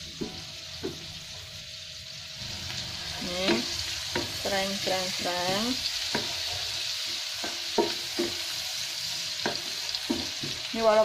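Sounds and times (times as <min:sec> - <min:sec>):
shallots sizzling in hot oil: 0:00.0 - 0:11.0.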